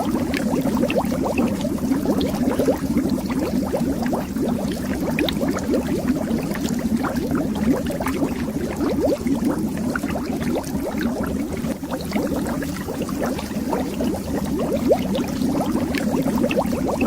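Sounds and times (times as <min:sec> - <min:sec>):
underwater bubbles rising: 0:00.0 - 0:17.0.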